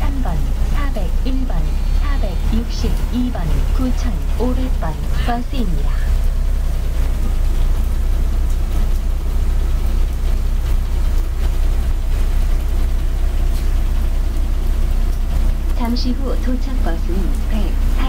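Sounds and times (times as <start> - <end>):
bus engine idling: 0.0 - 18.0
rain hissing on wet street: 0.0 - 18.0.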